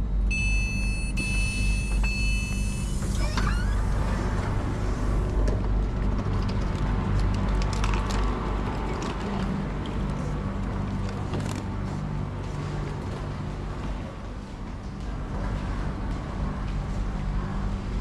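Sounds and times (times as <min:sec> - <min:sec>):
train interior rumble and hum: 0:00.0 - 0:18.0.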